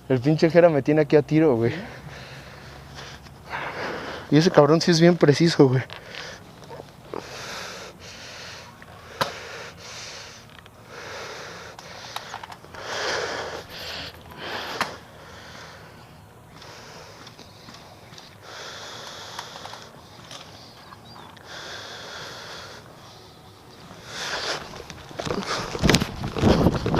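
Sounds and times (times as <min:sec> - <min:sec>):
person breathing hard: 0:01.7 - 0:04.5, 0:05.9 - 0:26.9.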